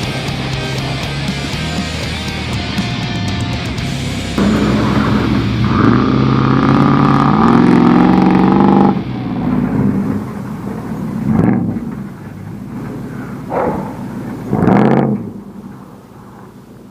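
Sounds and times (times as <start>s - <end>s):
off-road vehicle engine revving: 0.0s - 16.9s.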